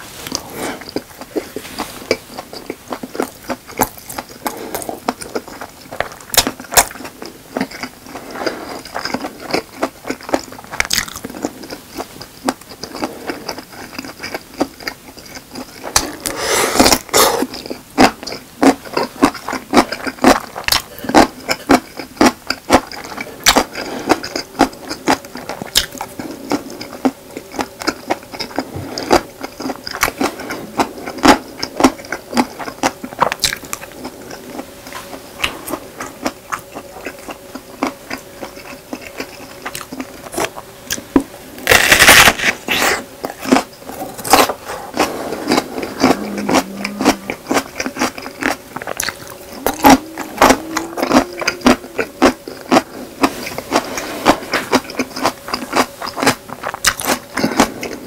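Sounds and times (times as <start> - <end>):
chewing and crunching: 0.2 - 58.0.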